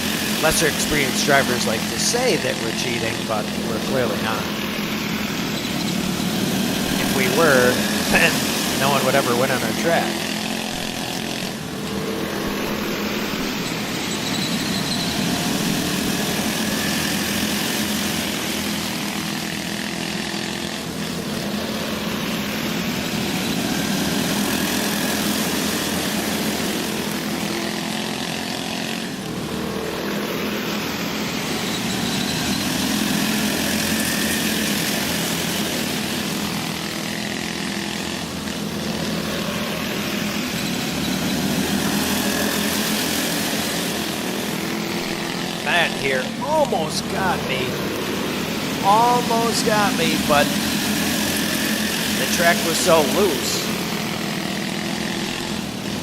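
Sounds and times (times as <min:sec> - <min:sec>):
go-kart engines buzzing: 0:00.0 - 0:56.0.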